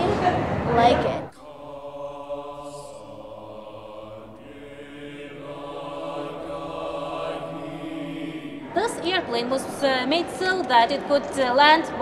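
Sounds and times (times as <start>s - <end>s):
mixed choir singing chords: 0.0s - 12.0s.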